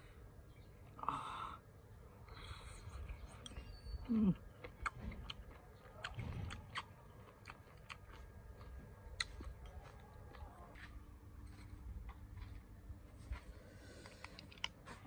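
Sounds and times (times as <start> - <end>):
chewing with small clicks: 2.2 - 12.6, 13.3 - 15.0.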